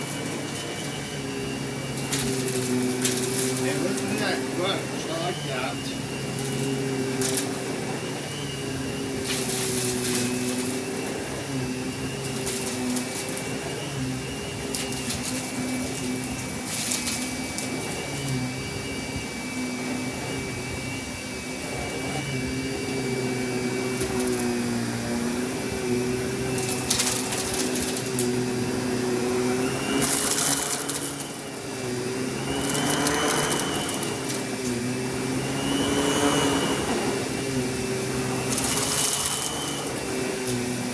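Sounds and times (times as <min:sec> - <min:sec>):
vacuum cleaner motor hum: 0:00.0 - 0:40.9.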